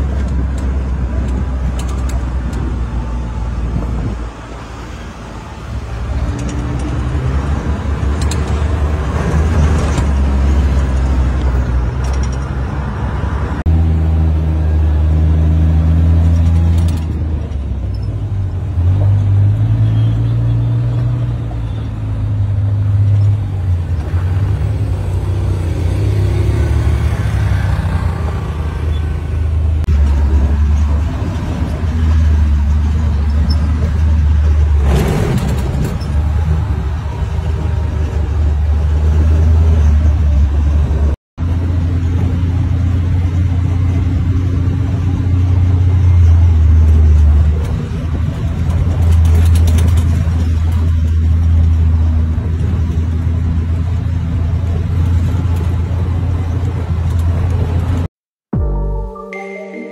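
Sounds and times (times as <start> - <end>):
utility vehicle engine drone: 0.0 - 59.1.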